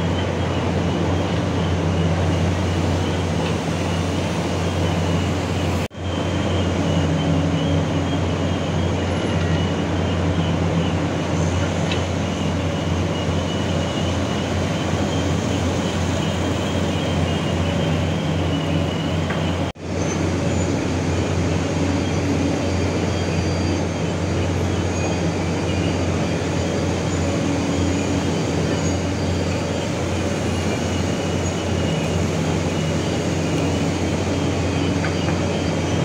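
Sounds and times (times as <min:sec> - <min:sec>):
heavy diesel machinery droning: 0:00.0 - 0:36.0.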